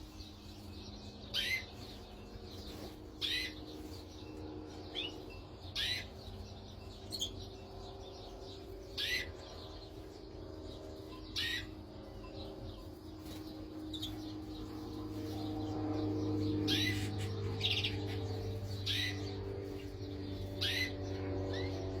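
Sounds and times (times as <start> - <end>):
canaries chirping: 0.0 - 22.0
steady low hum: 0.0 - 22.0.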